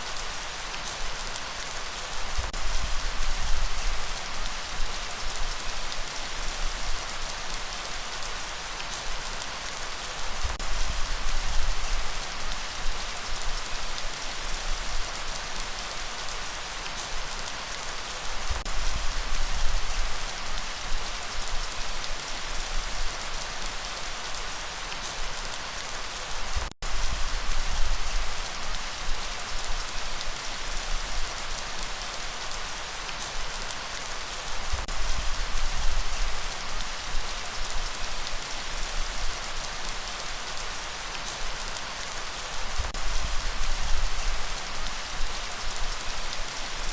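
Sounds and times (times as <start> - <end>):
heavy rain pattering: 0.0 - 46.9.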